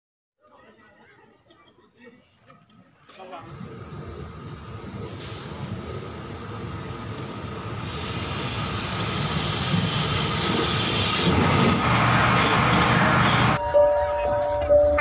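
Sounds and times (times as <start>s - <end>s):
diesel train engine and wheels: 2.7s - 15.0s.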